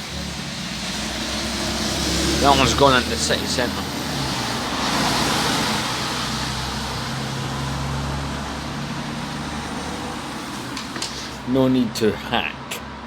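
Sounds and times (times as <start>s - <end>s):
vehicle passing with tyre noise: 0.0s - 13.0s.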